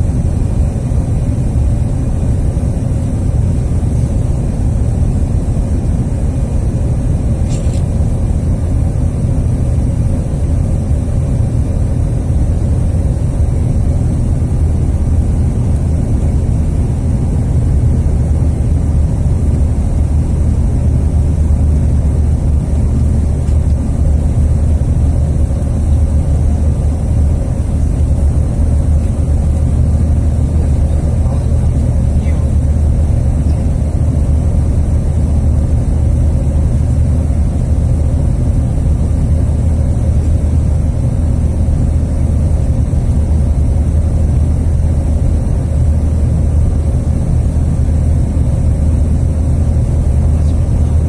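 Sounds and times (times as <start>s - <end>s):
jet engines rumbling in flight: 0.0s - 51.0s.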